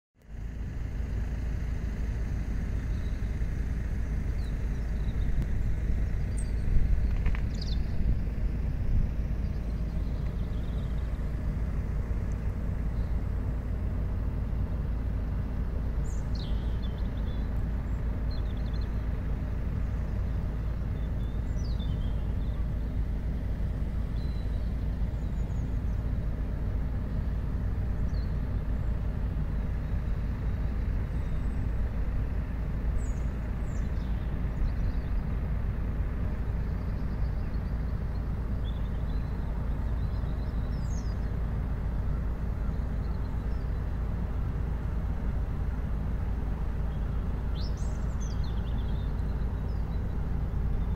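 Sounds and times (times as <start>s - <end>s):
low city rumble: 0.2s - 50.9s.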